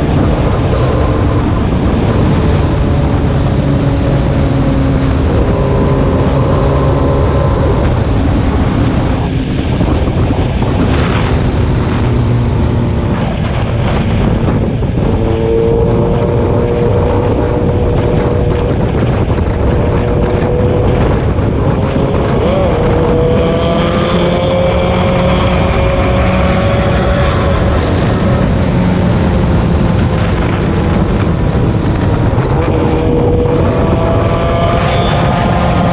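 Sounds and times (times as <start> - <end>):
vehicle engine rumble: 0.0 - 35.9
wind noise on microphone: 0.0 - 35.9.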